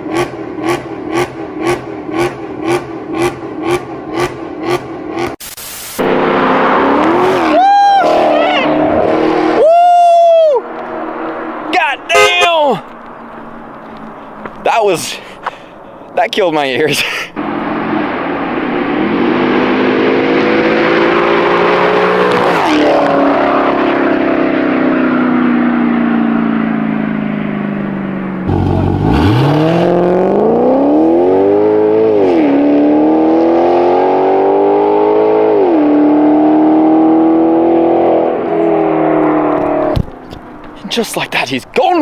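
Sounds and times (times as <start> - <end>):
car accelerating away with upshifts: 0.0 - 5.4, 6.0 - 14.6, 17.4 - 40.8
car engine revving at full throttle: 0.0 - 5.4, 6.0 - 12.4, 17.4 - 40.7.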